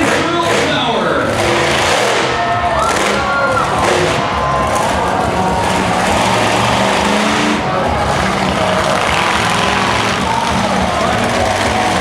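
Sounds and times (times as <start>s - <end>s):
monster truck engine running: 0.0s - 12.0s.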